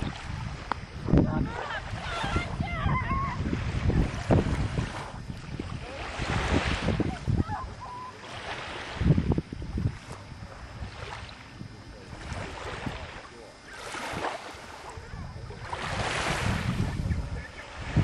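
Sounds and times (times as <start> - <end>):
small waves lapping on shore: 0.0 - 18.0
wind rumbling on microphone: 0.0 - 18.0.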